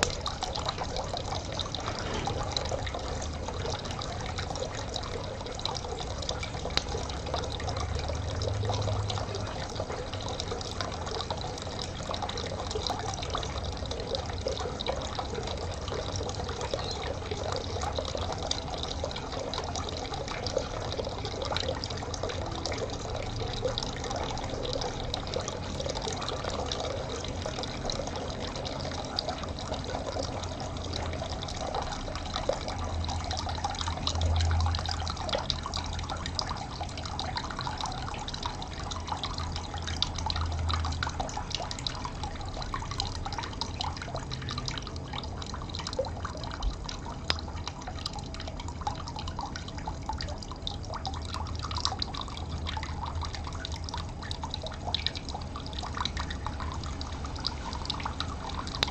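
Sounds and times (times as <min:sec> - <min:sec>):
water trickling and dripping: 0:00.0 - 0:58.9.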